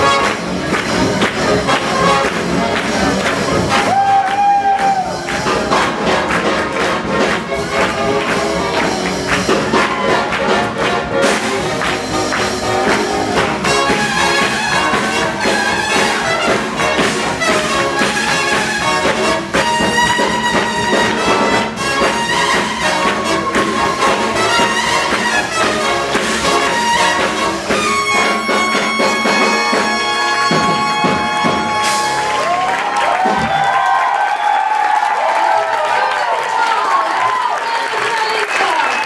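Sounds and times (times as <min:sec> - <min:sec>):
horns holding long notes: 0:00.0 - 0:33.0
live swing jazz band: 0:00.0 - 0:33.8.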